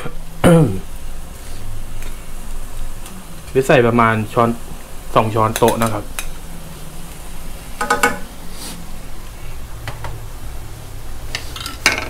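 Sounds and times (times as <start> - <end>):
pan simmering hum: 0.0 - 12.0.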